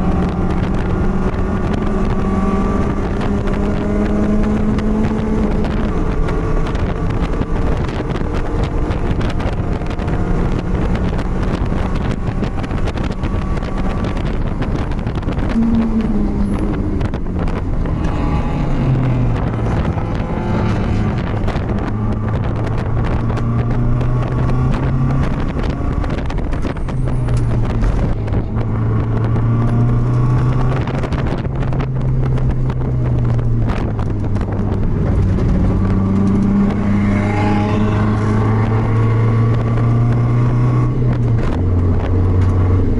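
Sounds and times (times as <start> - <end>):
race car engine running: 0.0 - 42.9
wind noise on microphone: 0.0 - 42.9.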